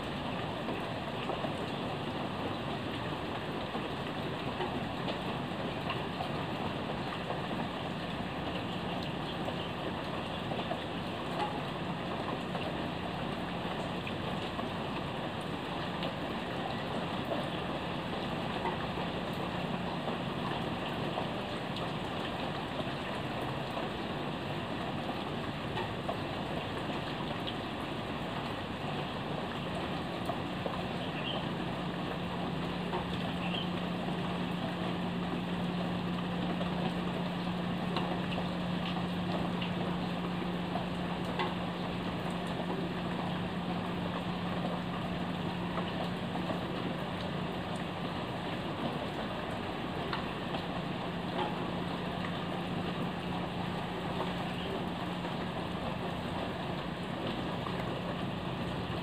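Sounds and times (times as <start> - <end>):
constant low hum: 0.0 - 59.0
faint drips: 0.0 - 59.0
steady rain: 0.0 - 59.0.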